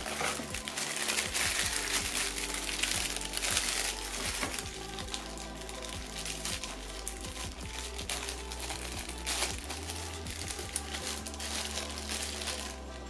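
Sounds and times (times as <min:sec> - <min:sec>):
background music with beat: 0:00.0 - 0:13.0
packaging rustling: 0:00.0 - 0:13.0.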